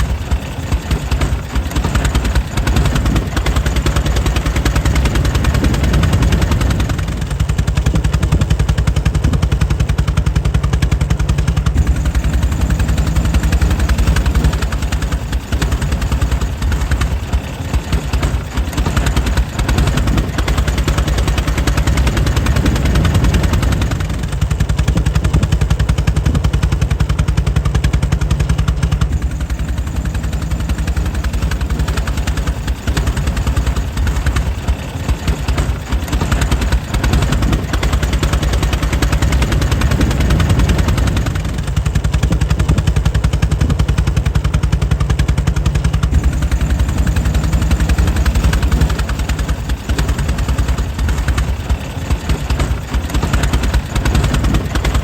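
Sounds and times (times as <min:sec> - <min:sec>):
air-cooled engine popping: 0:00.0 - 0:55.0.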